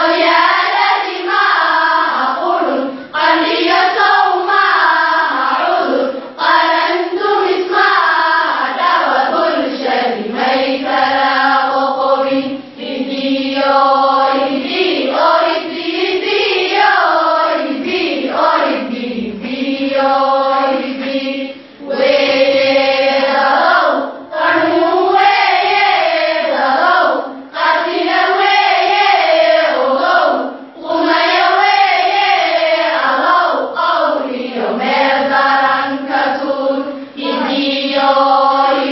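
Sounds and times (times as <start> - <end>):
girls singing in unison: 0.0 - 38.9.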